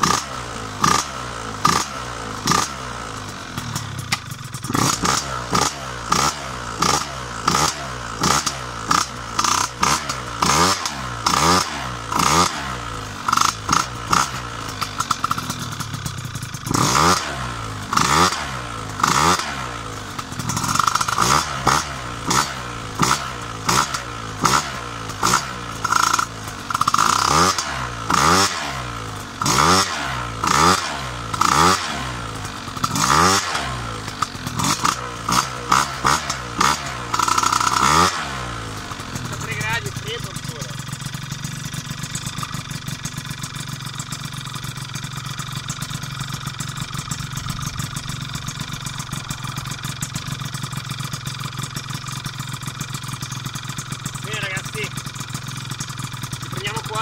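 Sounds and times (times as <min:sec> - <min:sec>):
scooter engine revving: 0:00.0 - 0:57.0.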